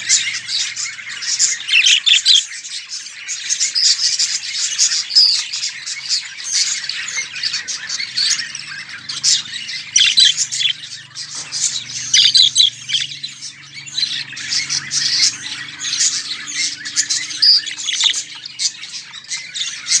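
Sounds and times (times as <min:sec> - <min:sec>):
budgerigars chirping and squawking: 0:00.0 - 0:20.0.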